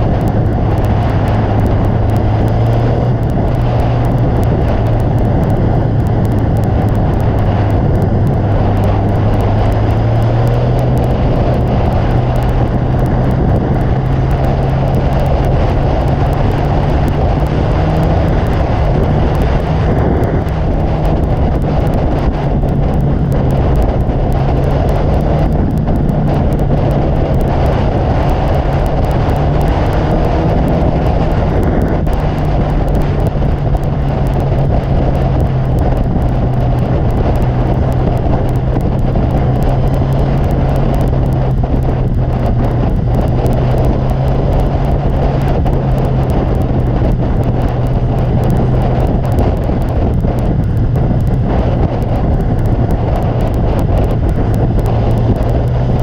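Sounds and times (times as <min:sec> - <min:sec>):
motorcycle engine cruising: 0:00.0 - 0:56.0
wind on microphone: 0:00.0 - 0:56.0.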